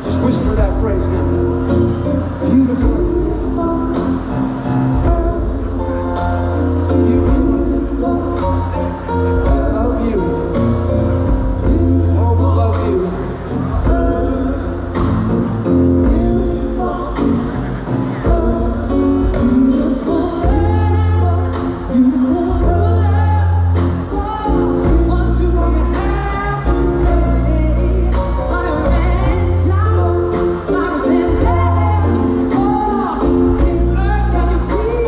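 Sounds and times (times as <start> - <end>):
bass line: 0.0 - 35.0
choir and lead voice singing: 1.9 - 35.0.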